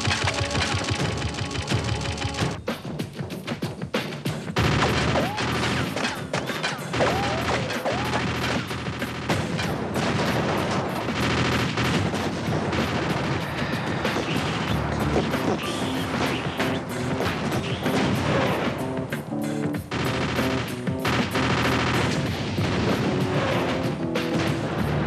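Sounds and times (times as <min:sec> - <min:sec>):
rapid gunfire: 0:00.0 - 0:02.7, 0:04.0 - 0:19.0, 0:19.8 - 0:25.0
background music: 0:00.0 - 0:25.0.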